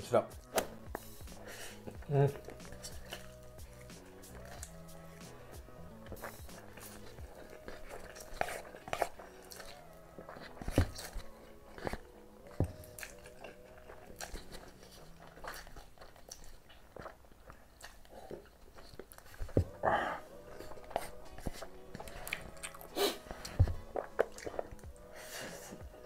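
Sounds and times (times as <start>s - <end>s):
man chewing and slurping noodles: 0.4s - 26.0s.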